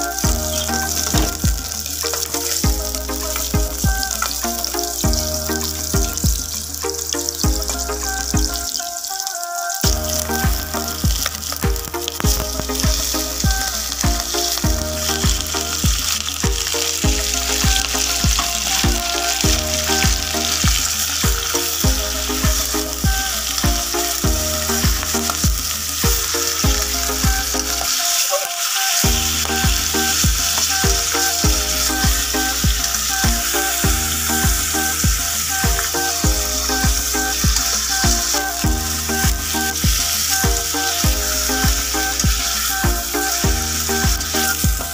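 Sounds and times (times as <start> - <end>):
background music with steady beat: 0.0 - 44.9
chicken sizzling in pot: 0.0 - 44.9.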